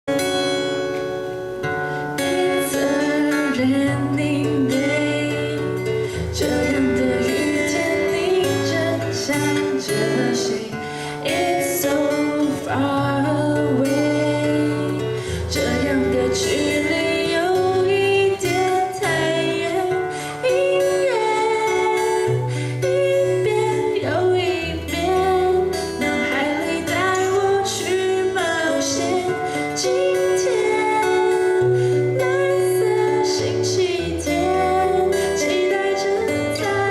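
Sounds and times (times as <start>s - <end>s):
plucked guitars: 0.0s - 36.9s
woman singing slow song: 1.9s - 36.9s.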